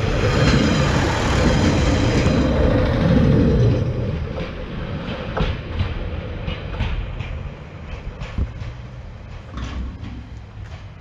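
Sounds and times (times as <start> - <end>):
diesel train rumble: 0.0 - 11.0
wheel clicks over rail joints: 0.1 - 11.0.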